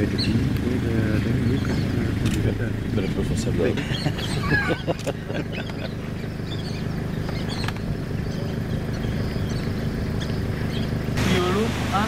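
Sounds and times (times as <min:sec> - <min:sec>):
birds chirping faintly: 0:00.0 - 0:12.0
engine running steadily: 0:00.0 - 0:12.0.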